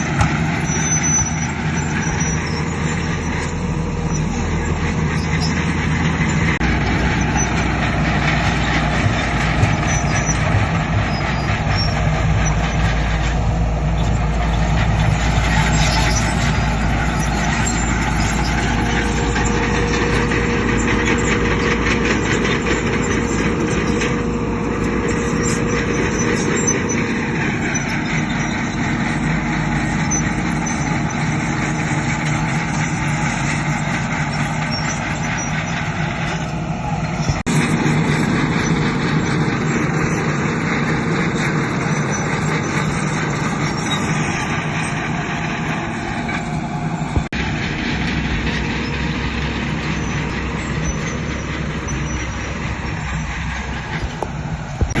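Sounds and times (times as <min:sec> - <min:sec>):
diesel machinery rumbling: 0:00.0 - 0:55.0.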